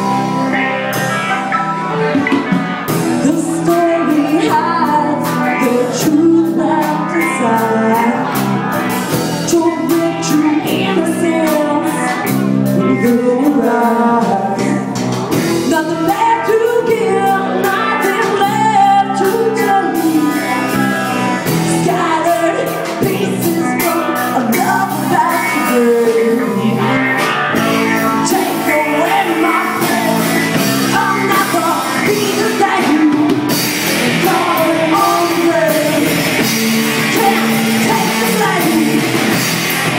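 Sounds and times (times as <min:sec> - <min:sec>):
drum kit: 0:00.0 - 0:39.9
electric bass: 0:00.0 - 0:39.9
electric lead guitar: 0:00.0 - 0:39.9
woman singing: 0:03.1 - 0:39.6.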